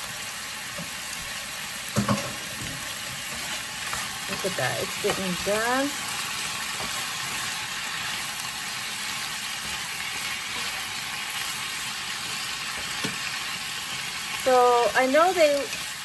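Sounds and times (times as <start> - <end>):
chicken sizzling in a skillet: 0.0 - 16.0
wooden spatula turning food: 0.6 - 14.5.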